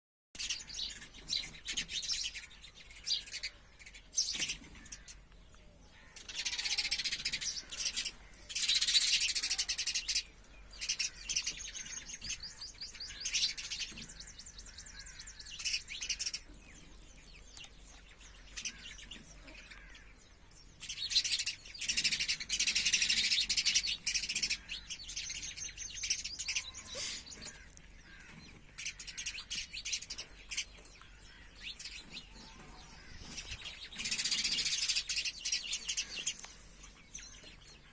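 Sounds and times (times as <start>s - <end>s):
small birds chirping and twittering: 0.4s - 37.9s.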